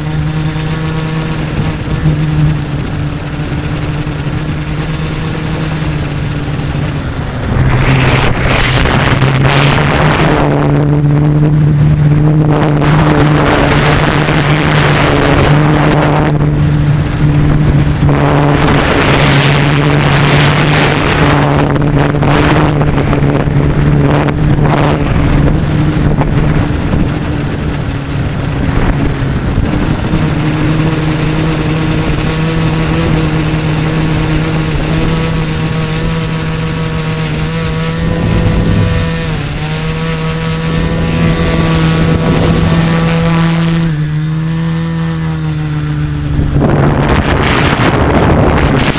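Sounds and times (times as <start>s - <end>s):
drone propellers humming: 0.0s - 48.9s
wind gusts on microphone: 0.0s - 48.9s.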